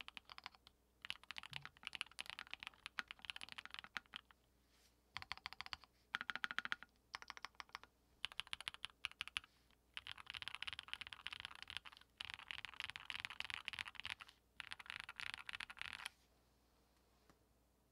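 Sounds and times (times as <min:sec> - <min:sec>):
mechanical keyboard typing: 0:00.0 - 0:04.3, 0:05.2 - 0:16.1.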